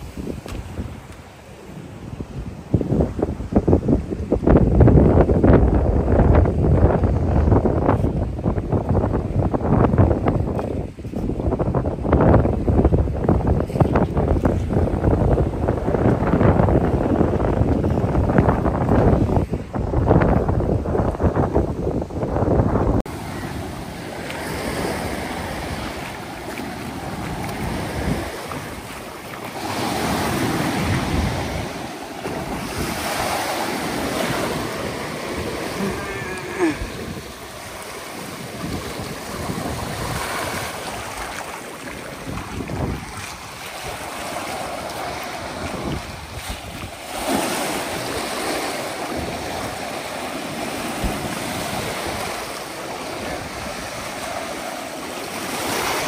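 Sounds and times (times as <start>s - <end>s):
sea waves breaking on shore: 0.0s - 56.0s
wind buffeting microphone: 0.0s - 56.0s.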